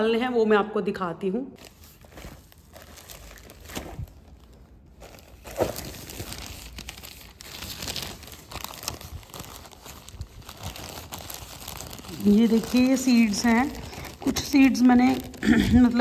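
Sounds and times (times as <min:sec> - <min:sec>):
plastic bags crinkling: 0:01.6 - 0:16.0.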